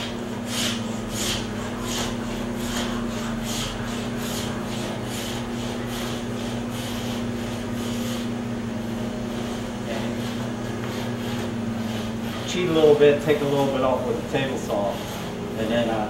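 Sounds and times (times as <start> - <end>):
blade scraping wood: 0.0 - 16.0.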